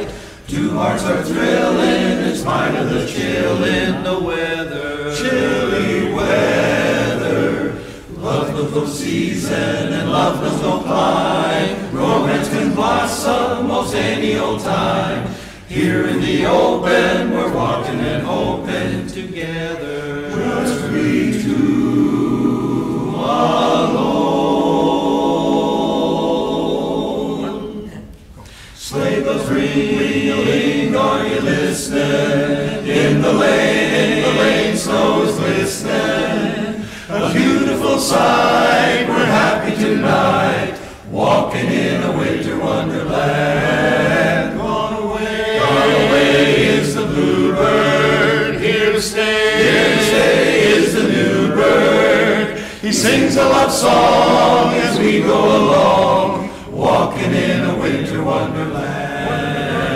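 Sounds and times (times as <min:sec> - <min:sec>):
men's chorus singing a cappella: 0:00.0 - 0:59.9.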